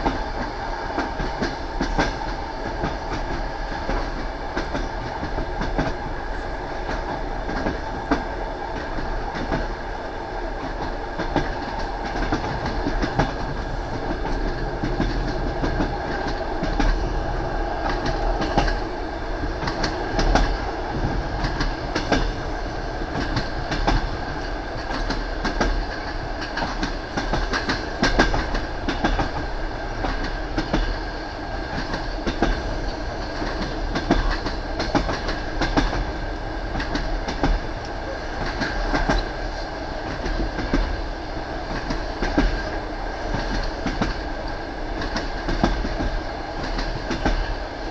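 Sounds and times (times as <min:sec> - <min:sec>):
train rumbling on track: 0:00.0 - 0:47.9.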